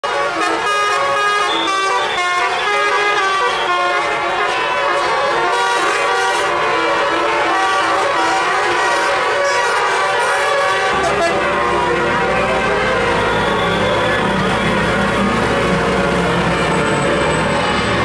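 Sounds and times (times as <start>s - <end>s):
bus horn playing a tune: 0.0s - 17.9s.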